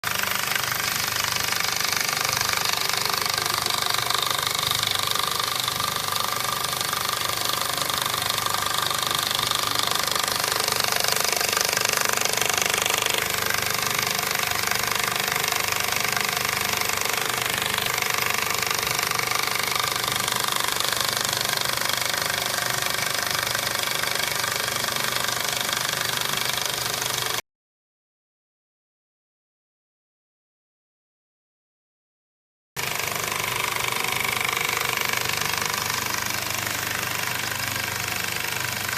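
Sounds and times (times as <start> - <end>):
sewing machine stitching: 0.0 - 27.4, 32.8 - 38.9.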